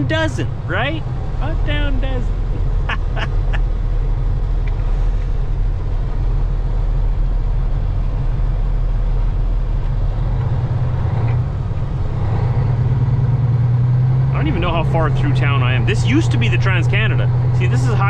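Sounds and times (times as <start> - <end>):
higher engine note: 0.0 - 18.0
truck engine drone: 0.0 - 18.0.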